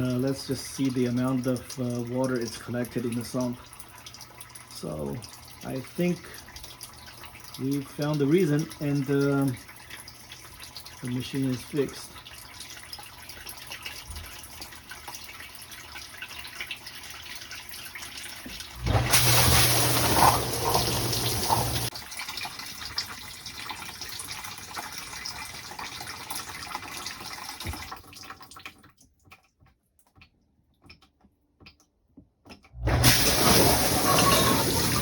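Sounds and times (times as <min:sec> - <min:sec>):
dishwasher water splashing: 0:00.0 - 0:29.4, 0:32.6 - 0:35.0.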